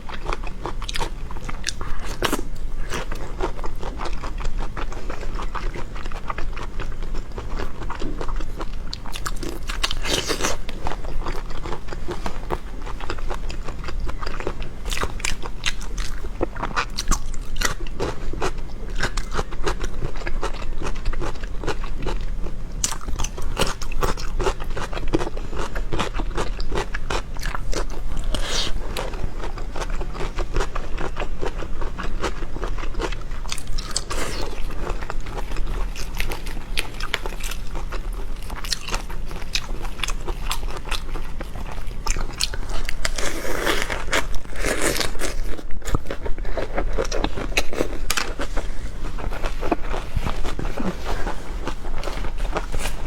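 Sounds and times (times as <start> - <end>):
chewing crunchy food: 0.0 - 53.0.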